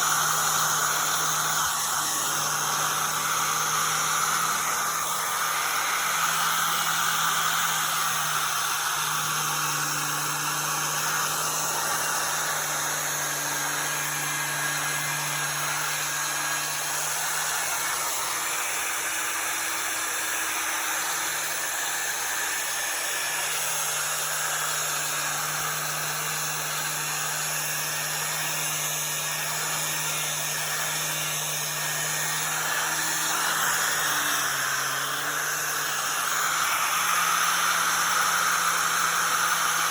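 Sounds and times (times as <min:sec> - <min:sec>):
angle grinder motor hum: 0:00.0 - 0:39.9.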